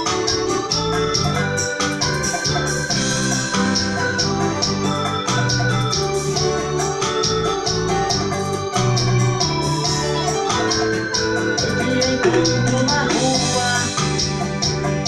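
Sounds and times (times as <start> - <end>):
electronic keyboard organ music: 0.0 - 15.0.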